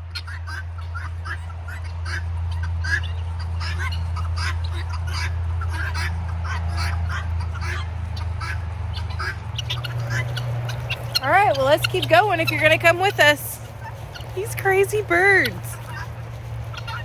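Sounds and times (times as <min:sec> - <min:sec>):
guinea fowl calling: 0:00.0 - 0:17.0
steady low rumble: 0:00.0 - 0:17.0.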